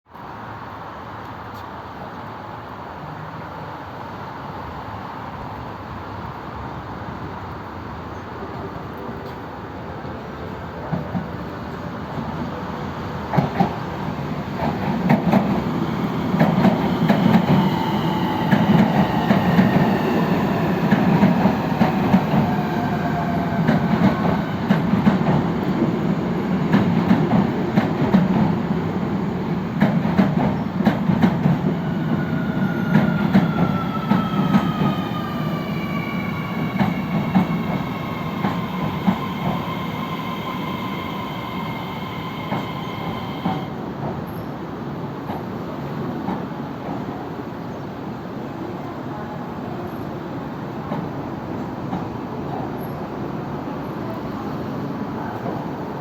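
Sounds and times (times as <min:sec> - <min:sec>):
heavy train rumble: 0:09.7 - 0:56.0.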